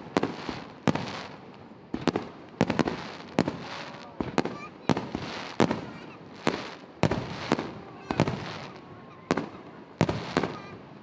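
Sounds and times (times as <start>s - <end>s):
firework shells bursting: 0.0s - 10.8s.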